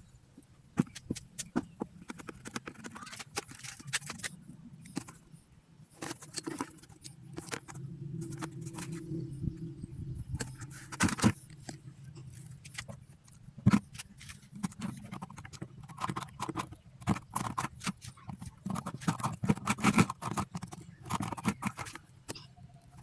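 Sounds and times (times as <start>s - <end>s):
plastic bucket clicking and scraping: 0.7s - 5.3s, 5.9s - 9.3s, 10.4s - 23.0s.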